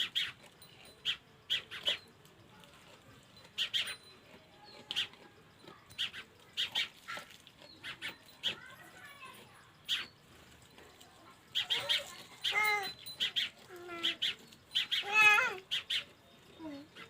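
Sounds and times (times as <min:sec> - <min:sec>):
small animal squeaking: 0:00.0 - 0:02.2, 0:03.4 - 0:10.2, 0:11.2 - 0:17.0.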